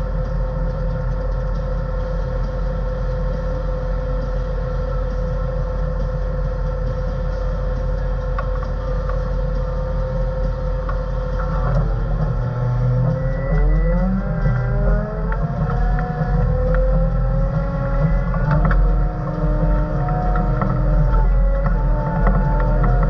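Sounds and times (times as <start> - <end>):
steady whine: 0.0 - 23.0.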